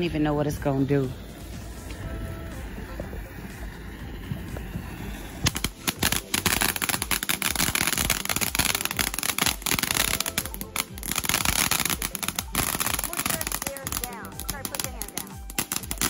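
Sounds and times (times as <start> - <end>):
firework fountain crackling: 0.0 - 16.0.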